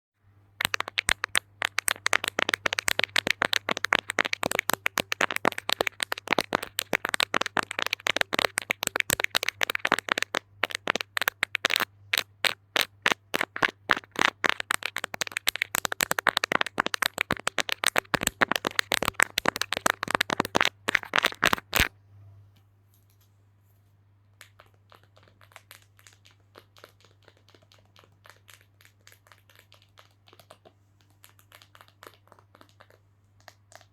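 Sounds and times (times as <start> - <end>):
fingertips tapping on hard object: 0.6 - 21.9, 24.4 - 33.9.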